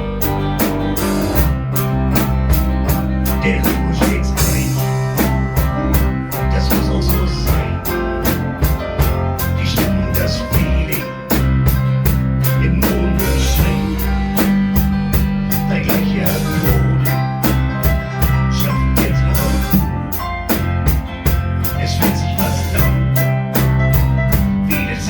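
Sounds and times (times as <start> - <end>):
drum kit beat: 0.0 - 25.0
guitar: 0.0 - 25.0
low bass notes: 0.0 - 25.0.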